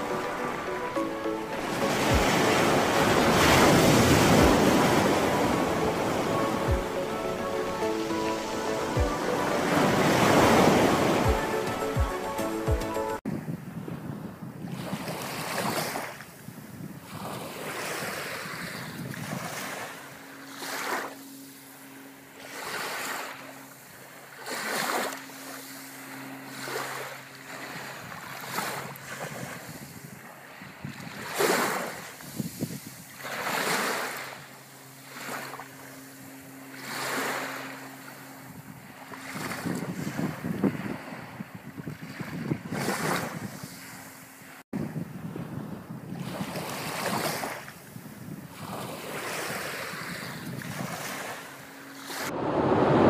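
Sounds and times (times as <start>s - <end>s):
small waves washing onto beach: 0.0s - 11.9s, 14.7s - 44.6s, 46.1s - 53.0s.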